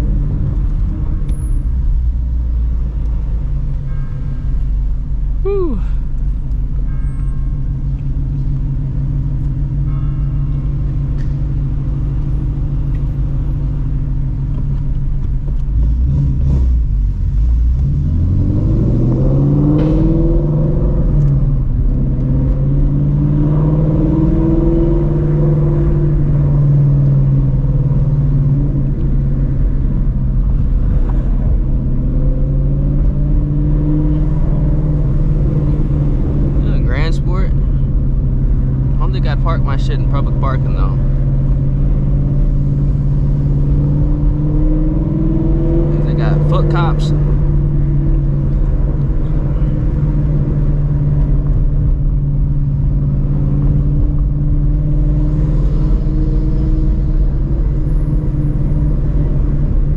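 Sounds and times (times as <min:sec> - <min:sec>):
car engine through loud exhaust: 0:00.0 - 0:59.9.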